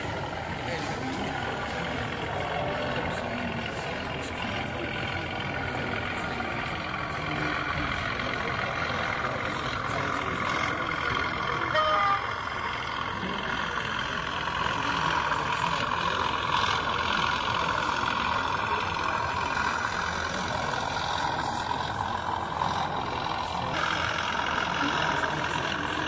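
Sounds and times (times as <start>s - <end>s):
continuous engine-like hum: 0.0s - 26.0s
indistinct voices: 0.0s - 26.0s.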